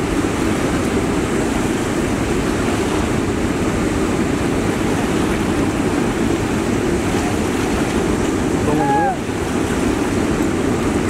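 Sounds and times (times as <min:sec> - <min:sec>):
river water rushing over weir: 0:00.0 - 0:11.0.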